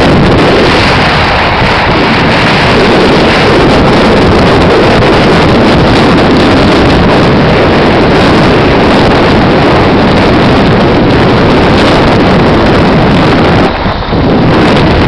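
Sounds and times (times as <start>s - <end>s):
road noise: 0.0s - 15.0s
wind on microphone: 0.0s - 15.0s.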